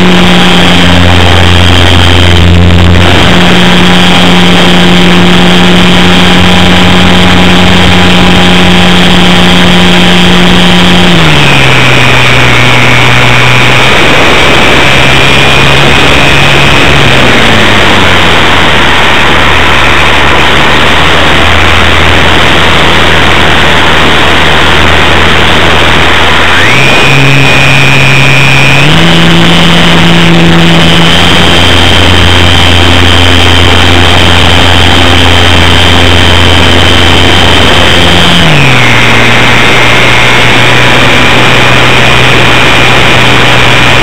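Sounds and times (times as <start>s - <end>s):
electric model plane motor buzzing: 0.0s - 44.0s
wind rush: 0.0s - 44.0s.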